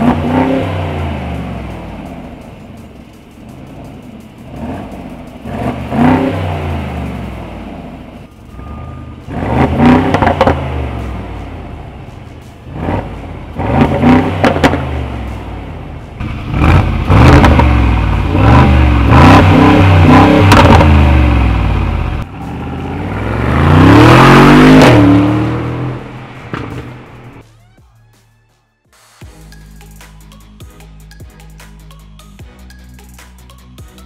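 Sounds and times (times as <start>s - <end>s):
car engine revving: 0.0s - 27.4s.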